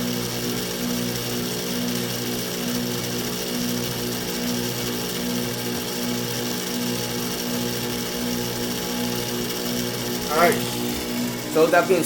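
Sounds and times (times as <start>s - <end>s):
heat pump humming: 0.0s - 12.0s.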